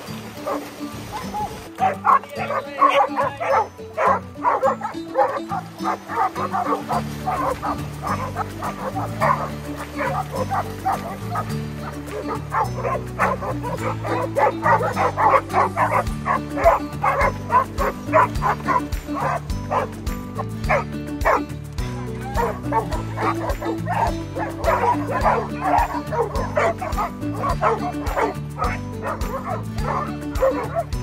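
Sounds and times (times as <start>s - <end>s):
background music low notes: 0.0s - 31.0s
dogs barking and yipping: 0.3s - 31.0s.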